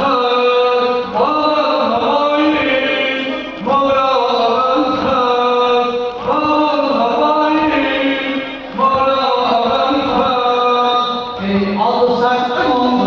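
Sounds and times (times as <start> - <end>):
mourning chant: 0.0 - 13.0.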